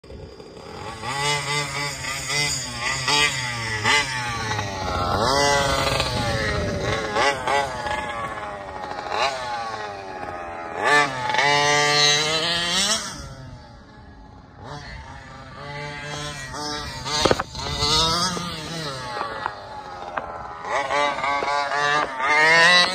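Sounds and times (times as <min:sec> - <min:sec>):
toy truck engine revving: 0:00.1 - 0:22.9.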